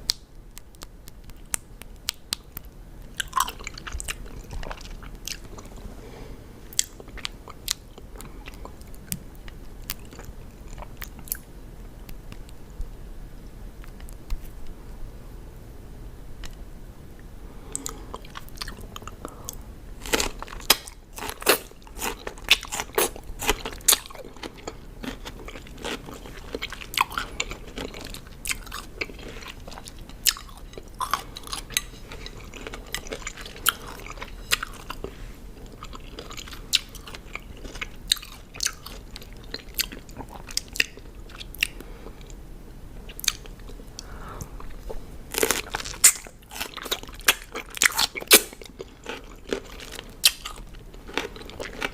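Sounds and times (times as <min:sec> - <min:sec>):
crunchy cucumber chewing: 0:00.1 - 0:05.9, 0:06.7 - 0:12.8, 0:17.7 - 0:42.4, 0:43.0 - 0:51.9.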